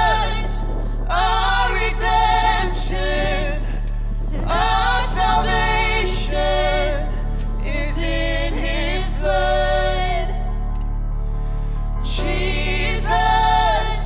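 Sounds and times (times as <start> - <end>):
voices singing held phrases: 0.0 - 10.9, 12.0 - 14.0
steady low drone: 0.0 - 14.0.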